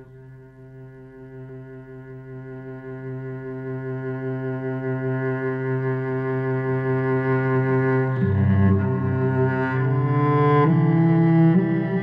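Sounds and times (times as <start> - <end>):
low bowed string note: 0.0 - 12.0.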